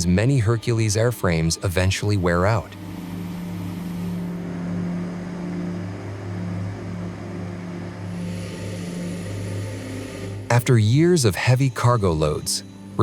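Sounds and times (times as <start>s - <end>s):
turboprop engines droning: 0.0s - 13.0s.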